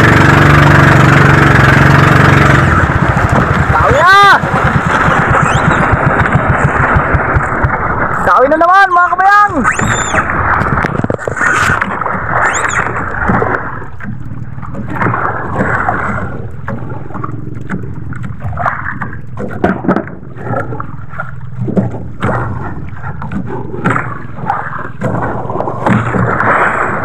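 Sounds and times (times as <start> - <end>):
water splashing against boat hull: 0.0 - 27.0.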